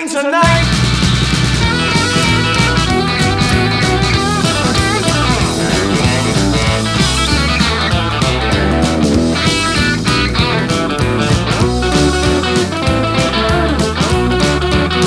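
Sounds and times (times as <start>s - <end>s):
lead electric guitar bent notes: 0.4s - 15.0s
rockabilly band instrumental: 0.4s - 15.0s.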